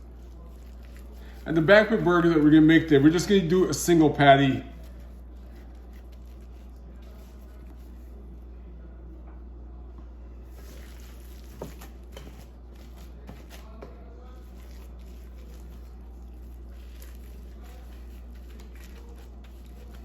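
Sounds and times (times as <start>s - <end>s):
hands squishing ground meat: 0.0s - 8.2s, 10.5s - 20.0s
steady low hum: 0.0s - 20.0s.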